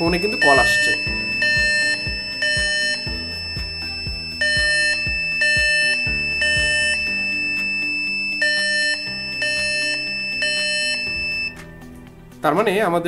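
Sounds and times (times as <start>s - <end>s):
piezo buzzer beeping: 0.0s - 11.7s
music with steady beat: 0.0s - 12.7s.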